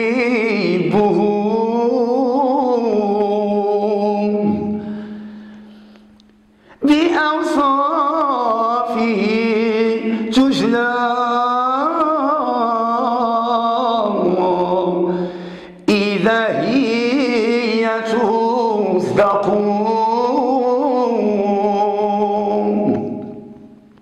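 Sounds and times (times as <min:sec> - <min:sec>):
man singing devotional chant: 0:00.0 - 0:04.8, 0:06.8 - 0:15.2, 0:15.8 - 0:23.4.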